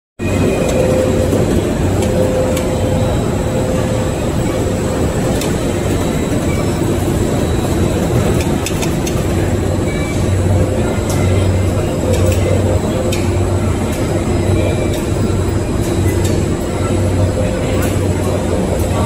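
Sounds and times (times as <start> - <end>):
machinery droning: 0.2 - 19.0.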